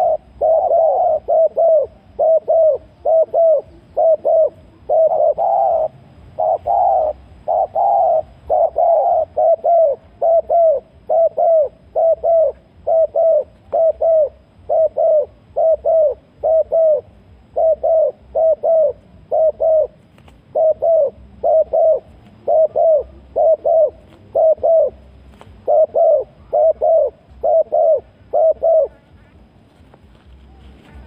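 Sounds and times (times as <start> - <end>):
dove cooing: 0.0 - 29.5.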